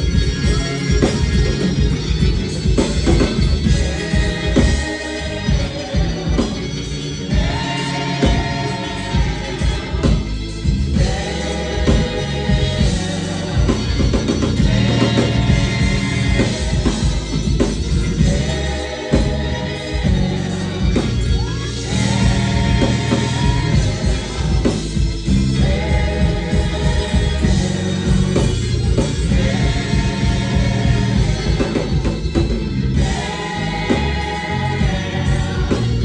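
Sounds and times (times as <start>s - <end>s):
bass: 0.0s - 36.0s
drums: 0.0s - 36.0s
gospel choir singing: 0.0s - 36.0s.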